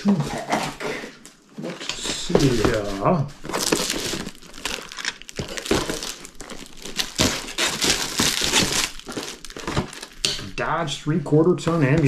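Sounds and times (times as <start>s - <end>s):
plastic and cardboard crinkling: 0.0s - 12.0s.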